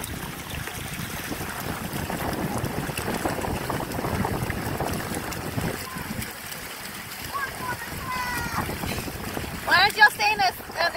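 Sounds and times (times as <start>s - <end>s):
water splashing against a boat: 0.0s - 10.9s
wind rumbling on microphone: 0.0s - 10.9s.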